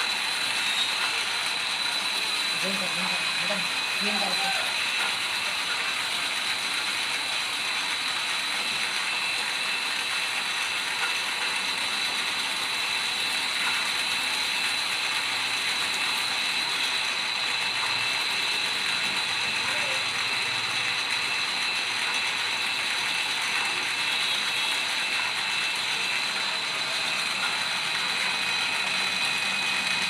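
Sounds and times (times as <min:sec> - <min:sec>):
lathe machine running: 0:00.0 - 0:30.0.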